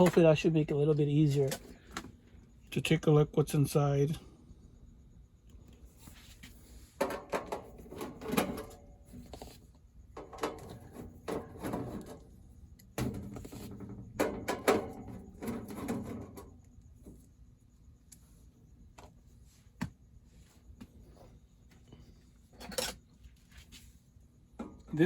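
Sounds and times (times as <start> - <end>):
handling knocks and scraping: 0.0 - 2.2, 5.9 - 17.4, 18.5 - 25.0.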